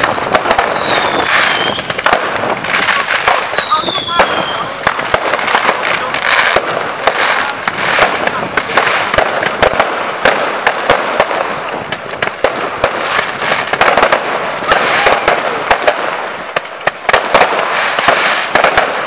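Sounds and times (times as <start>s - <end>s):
fireworks bangs: 0.0s - 19.0s
fireworks crackle: 0.0s - 19.0s.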